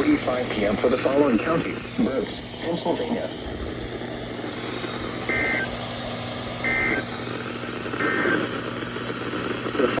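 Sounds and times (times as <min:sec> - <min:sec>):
low hum: 0:00.0 - 0:10.0
radio hiss: 0:00.0 - 0:10.0.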